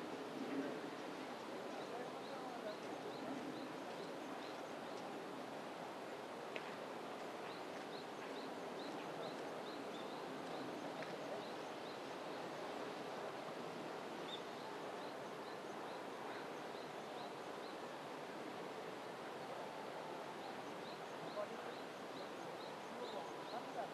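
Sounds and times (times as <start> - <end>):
outdoor background hiss: 0.0 - 23.9.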